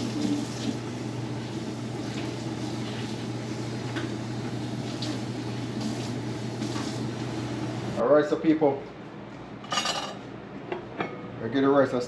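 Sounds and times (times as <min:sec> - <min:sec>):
kitchen hum and hiss: 0:00.0 - 0:12.0.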